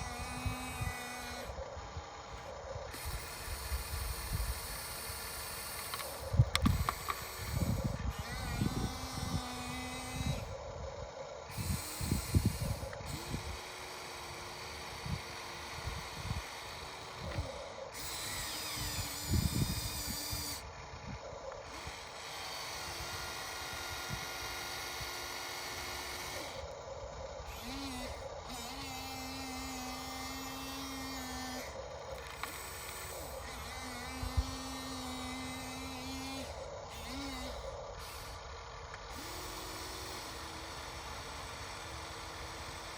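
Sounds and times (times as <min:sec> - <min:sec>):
hydraulic pump whining: 0:00.0 - 0:42.9.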